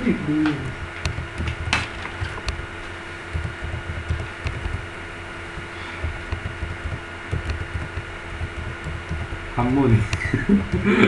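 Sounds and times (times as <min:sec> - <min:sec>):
steady electrical hum: 0:00.0 - 0:11.0
computer keyboard typing: 0:01.0 - 0:02.6, 0:03.3 - 0:11.0.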